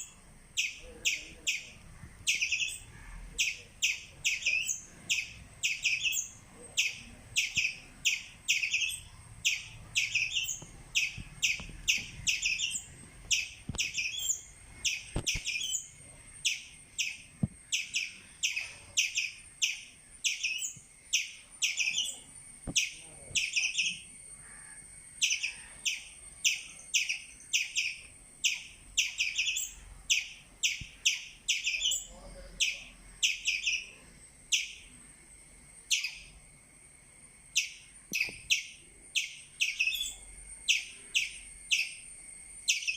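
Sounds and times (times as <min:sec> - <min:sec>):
squirrel chirping: 0:00.0 - 0:34.9, 0:35.8 - 0:36.3, 0:37.5 - 0:42.9.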